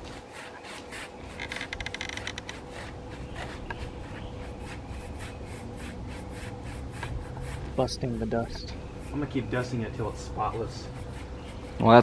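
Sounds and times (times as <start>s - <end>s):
brush scrubbing metal fins: 0.0s - 12.0s.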